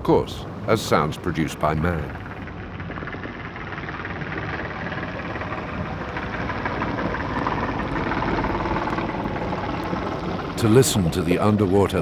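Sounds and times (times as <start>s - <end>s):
motor boat engine: 0.0s - 12.0s.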